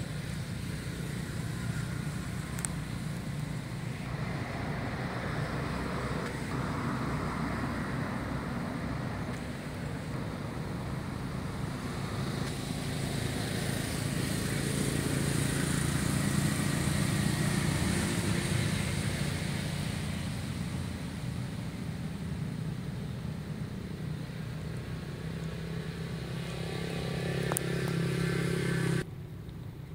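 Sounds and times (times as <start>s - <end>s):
vehicle engine passing: 0.0s - 29.1s.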